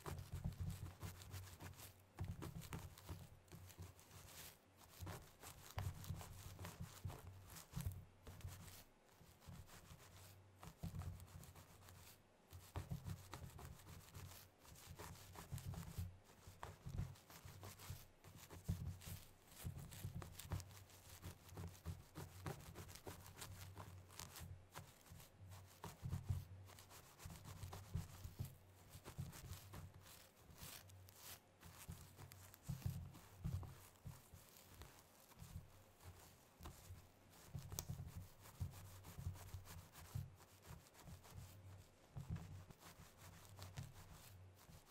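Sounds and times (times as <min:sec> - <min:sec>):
nails scratching through hair: 0:00.0 - 0:44.9.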